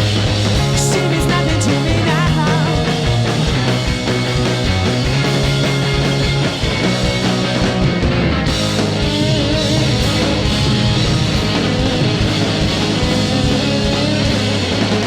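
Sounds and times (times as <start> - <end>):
live rock band instrumental: 0.0 - 15.0.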